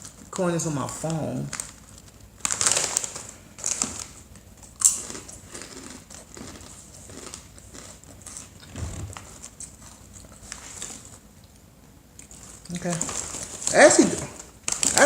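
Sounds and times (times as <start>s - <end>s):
plastic snack bag crinkling: 0.0s - 11.2s, 12.2s - 15.0s
chewing crunchy snacks: 0.0s - 15.0s.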